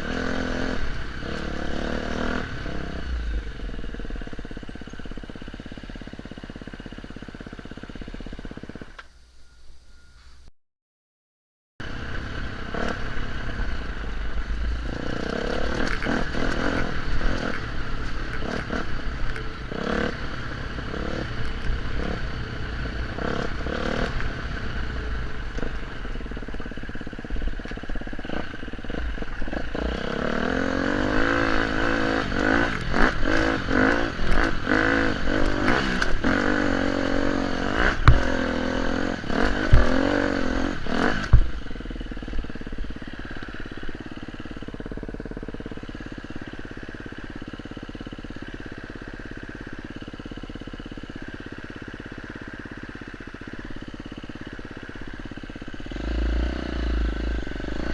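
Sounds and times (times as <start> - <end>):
off-road motorcycle engine revving: 0.0 - 9.1, 11.8 - 57.9.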